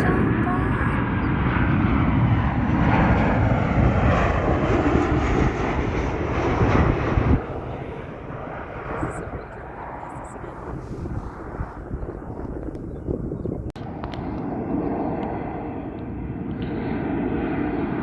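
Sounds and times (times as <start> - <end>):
jet airliner engines roaring: 0.0 - 18.0.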